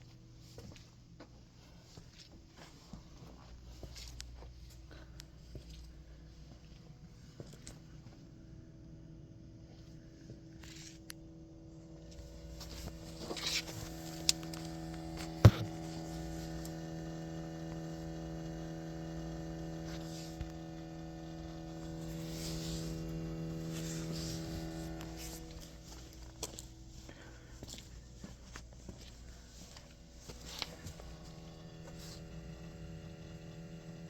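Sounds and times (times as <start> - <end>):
steady electric buzz: 2.8 - 34.0.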